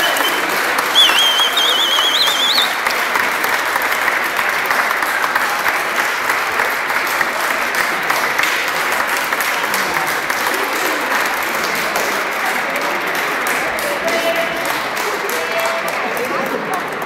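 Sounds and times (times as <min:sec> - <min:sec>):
crowd applause: 0:00.0 - 0:17.0.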